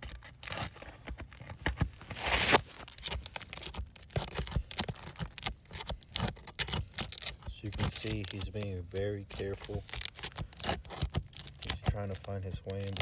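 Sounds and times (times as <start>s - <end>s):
shingle crackling and clicking: 0.0s - 13.0s
shingle tearing rasp: 0.0s - 13.0s.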